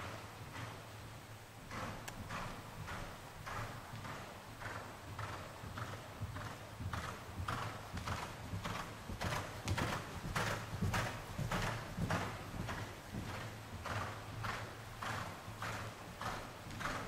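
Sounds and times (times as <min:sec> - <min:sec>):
horse hoofbeats cantering: 0:00.0 - 0:00.9, 0:01.6 - 0:17.0.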